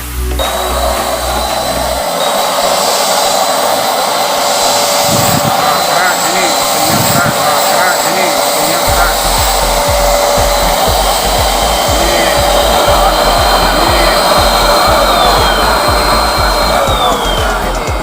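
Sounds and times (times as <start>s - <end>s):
electric paint sprayer motor whining: 0.0s - 18.0s.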